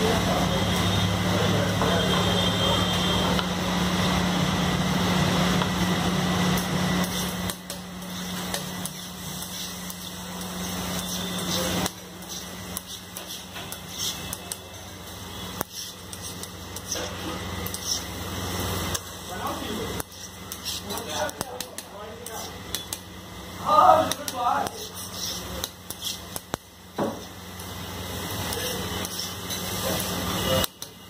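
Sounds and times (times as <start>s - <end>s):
food sizzling on a griddle: 0.0s - 31.0s
steady mechanical hum: 0.0s - 31.0s.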